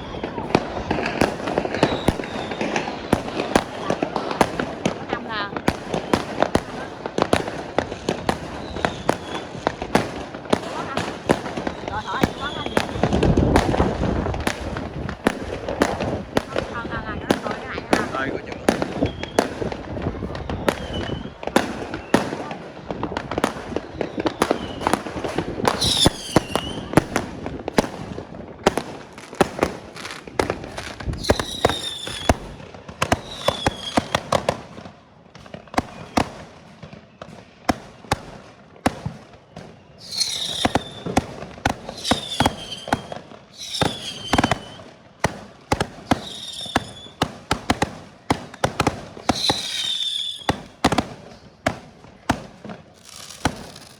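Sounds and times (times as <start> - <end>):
fireworks whistling: 0.0 - 22.6, 23.3 - 34.7, 35.5 - 53.9
fireworks cracking and banging: 0.0 - 53.9.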